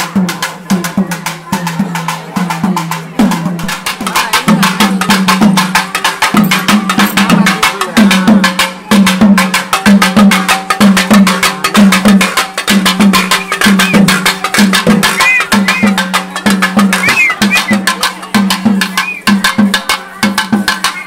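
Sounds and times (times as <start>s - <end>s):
barrel drums beaten fast: 0.0s - 21.0s.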